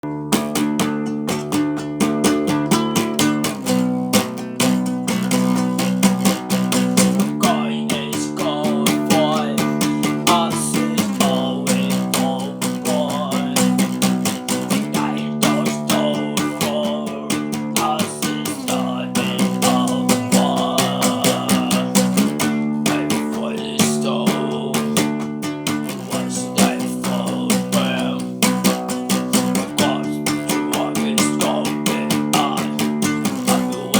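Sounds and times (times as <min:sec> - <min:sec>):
strummed guitar chords: 0:00.0 - 0:33.9.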